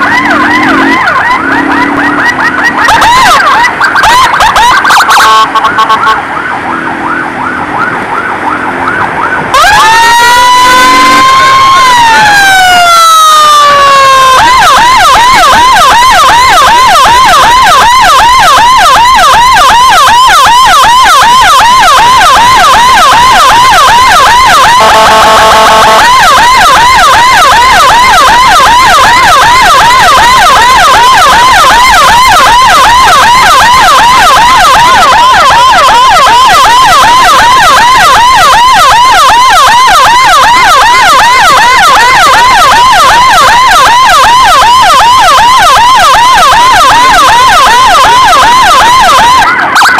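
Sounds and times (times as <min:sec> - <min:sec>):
horn blast: 0:00.0 - 0:03.7, 0:09.5 - 0:49.9
emergency siren yelping: 0:00.0 - 0:49.9.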